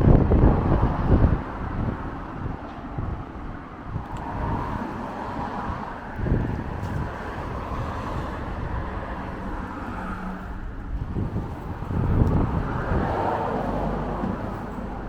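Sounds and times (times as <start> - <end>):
outdoor noise: 0.0 - 15.0
wind buffeting microphone: 0.0 - 15.0.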